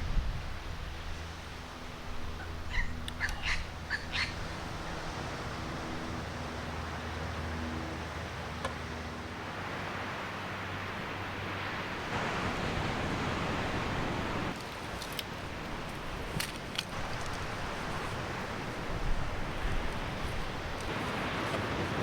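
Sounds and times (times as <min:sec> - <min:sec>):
steady outdoor rush: 0:00.0 - 0:22.0.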